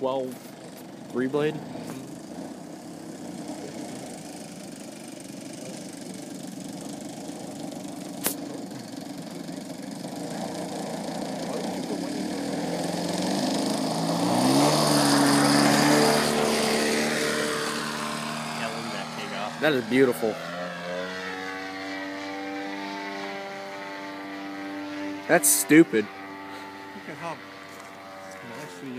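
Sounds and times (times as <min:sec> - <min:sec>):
model plane engine and propeller: 0:00.0 - 0:28.9.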